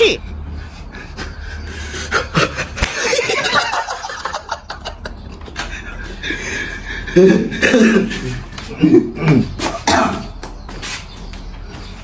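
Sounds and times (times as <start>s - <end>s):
people snickering: 0.5s - 10.3s.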